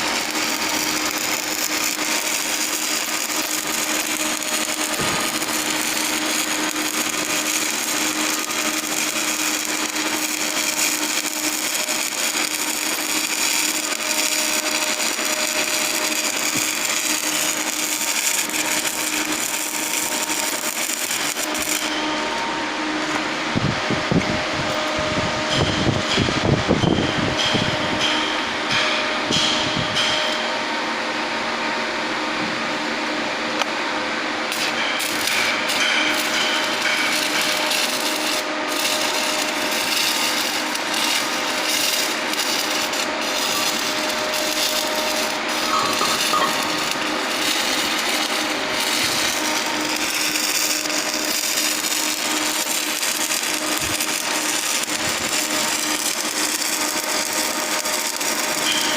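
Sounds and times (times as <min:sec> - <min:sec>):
welding arc crackling and hissing: 0:00.0 - 0:24.8, 0:33.6 - 0:58.9.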